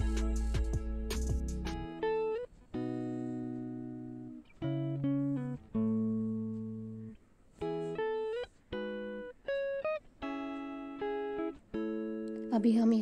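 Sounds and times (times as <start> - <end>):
plucked guitar-like melody: 0.0 - 13.0.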